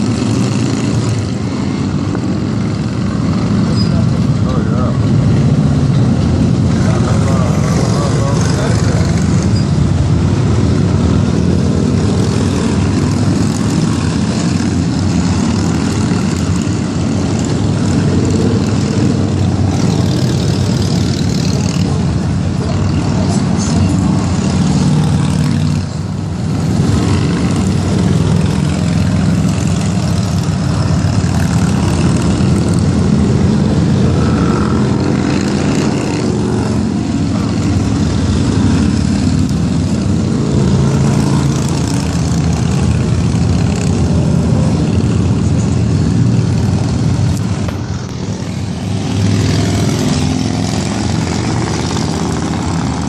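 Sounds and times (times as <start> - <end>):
motorcycles riding past: 0.0 - 53.0.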